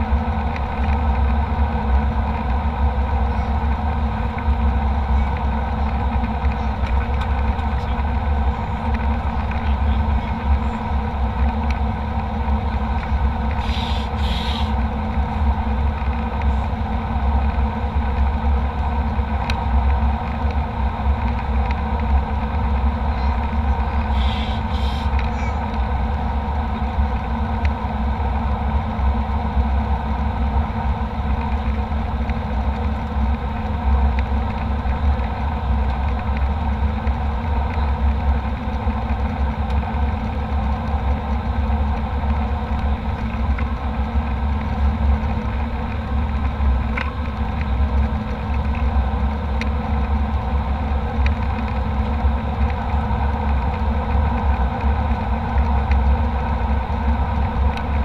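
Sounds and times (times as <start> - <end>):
airliner cabin engine drone: 0.0 - 58.0.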